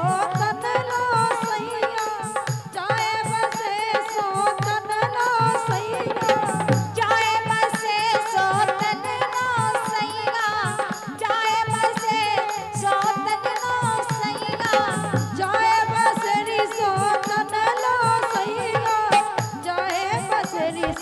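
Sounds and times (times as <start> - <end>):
hand drum beat: 0.0 - 21.0
woman singing into microphone: 0.0 - 21.0.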